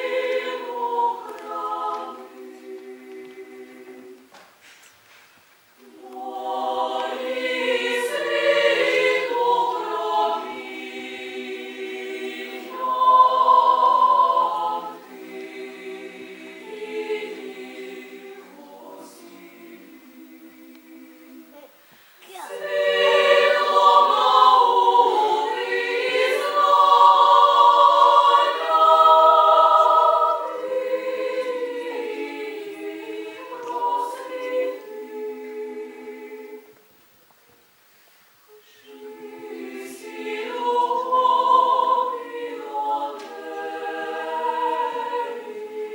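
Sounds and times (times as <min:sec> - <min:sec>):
female choir singing a cappella: 0:00.0 - 0:04.3, 0:05.8 - 0:36.9, 0:38.5 - 0:45.9.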